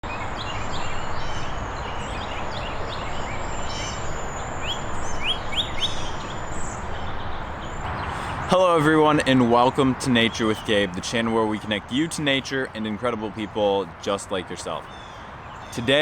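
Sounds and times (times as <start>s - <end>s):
birds chirping: 0.0s - 16.0s
outdoor background hiss: 0.0s - 16.0s.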